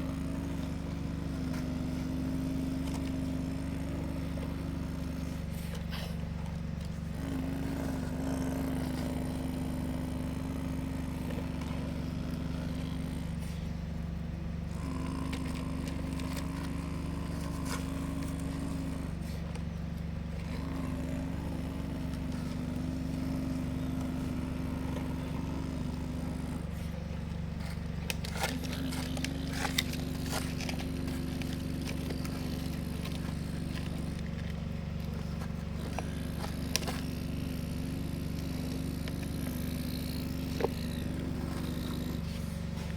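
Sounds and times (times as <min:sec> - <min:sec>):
excavator engine running: 0:00.0 - 0:42.9
higher whine: 0:00.0 - 0:42.9.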